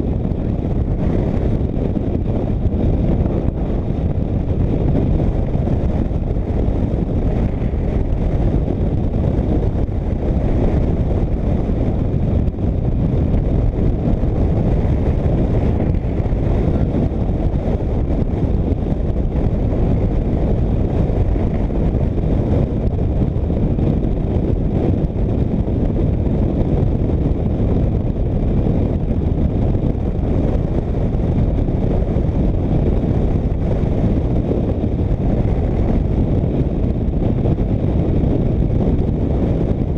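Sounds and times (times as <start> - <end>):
motorcycle droning at speed: 0.0 - 39.9
wind rush on microphone: 0.0 - 39.9.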